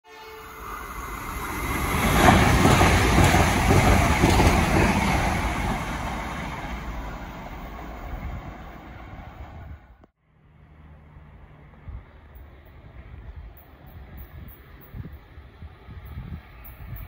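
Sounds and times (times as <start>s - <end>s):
train passing at speed: 0.1s - 17.0s.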